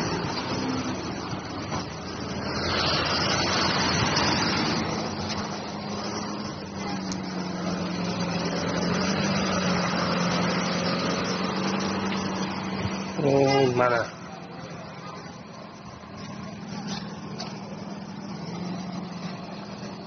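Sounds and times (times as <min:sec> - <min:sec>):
road traffic engines: 0:00.0 - 0:20.0.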